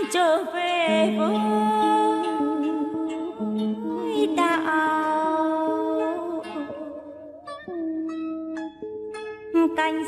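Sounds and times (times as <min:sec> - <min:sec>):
plucked string instrument: 0:00.0 - 0:10.0.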